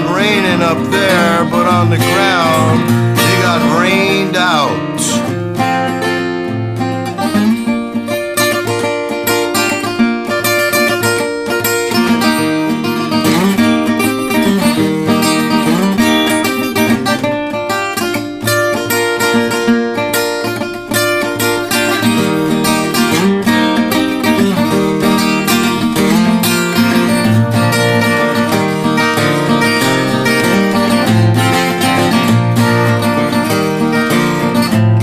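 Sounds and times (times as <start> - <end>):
country music with picked acoustic guitar: 0.0 - 35.0.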